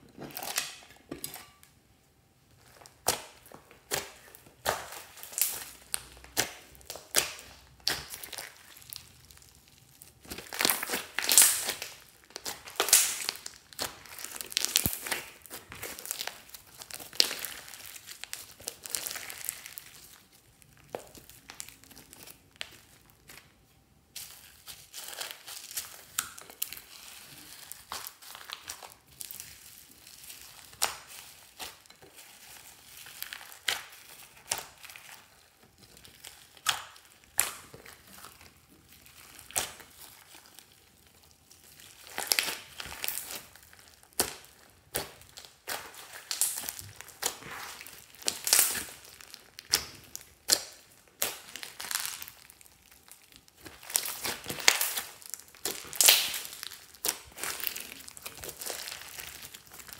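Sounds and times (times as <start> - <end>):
slime squishing and crackling: 2.4 - 59.9.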